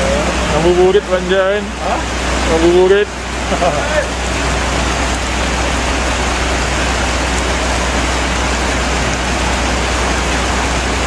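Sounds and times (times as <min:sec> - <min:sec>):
heavy rain hissing on road: 0:00.0 - 0:11.0
low hum: 0:00.0 - 0:11.0.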